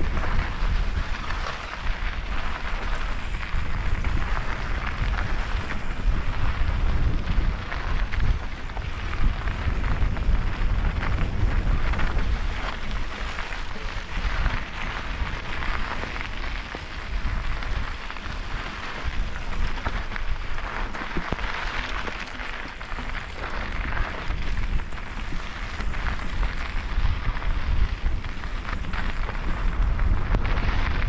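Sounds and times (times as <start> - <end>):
bike tyres crunching over gravel: 0.0 - 31.0
wind buffeting microphone: 0.0 - 31.0.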